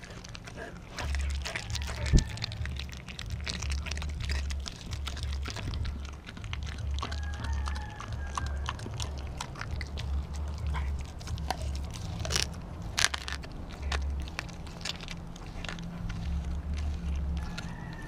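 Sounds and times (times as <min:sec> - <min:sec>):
dog chewing and crunching bone: 0:00.0 - 0:18.0.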